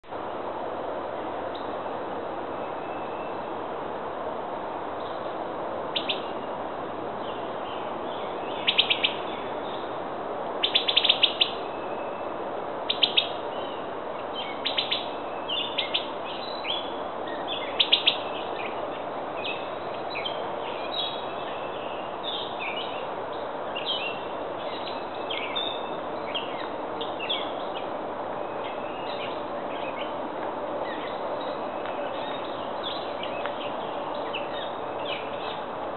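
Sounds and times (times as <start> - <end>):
songbirds chirping: 0.0 - 35.9
steady background hiss: 0.0 - 35.9.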